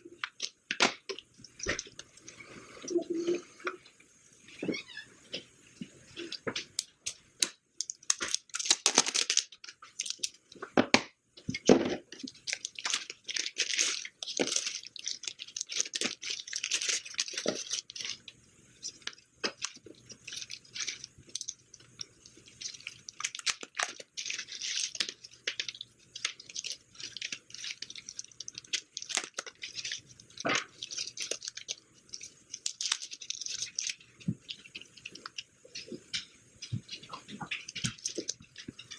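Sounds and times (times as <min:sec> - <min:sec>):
plastic and paper crinkling: 0:00.0 - 0:03.8, 0:05.8 - 0:38.9.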